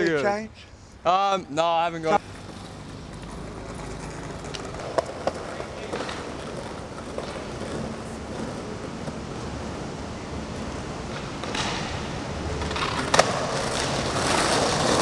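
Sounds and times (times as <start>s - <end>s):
skateboard wheels rolling on concrete: 1.6s - 15.0s
skateboard clack: 2.3s - 15.0s.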